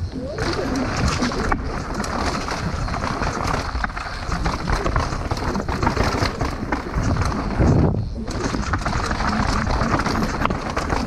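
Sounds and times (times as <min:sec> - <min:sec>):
bike rattling: 0:00.0 - 0:11.0
bike tyres rolling over dirt: 0:00.0 - 0:11.0
wind rumble on microphone: 0:00.0 - 0:11.0.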